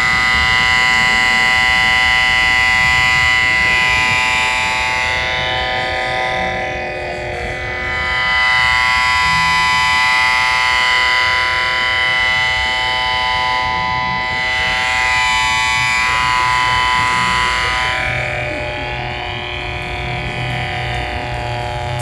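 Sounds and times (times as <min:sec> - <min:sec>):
electrical buzzing chord: 0:00.0 - 0:22.0.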